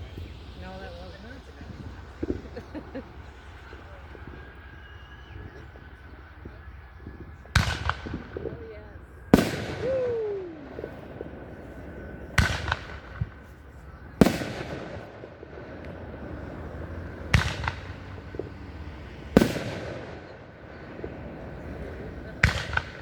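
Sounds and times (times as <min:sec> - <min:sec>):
fireworks bangs with rumbling echo: 0:00.0 - 0:23.0.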